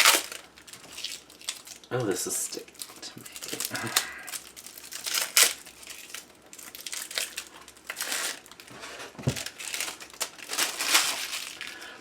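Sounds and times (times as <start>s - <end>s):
plastic packaging crinkling: 0.0s - 12.0s
sharp plastic crackle: 0.0s - 12.0s.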